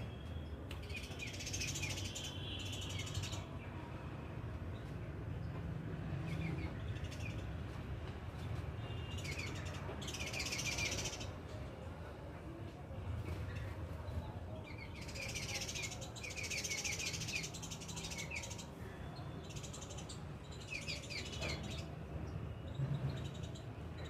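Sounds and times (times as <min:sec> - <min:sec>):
small birds twittering: 0:00.0 - 0:03.8, 0:04.7 - 0:11.6, 0:13.2 - 0:24.0.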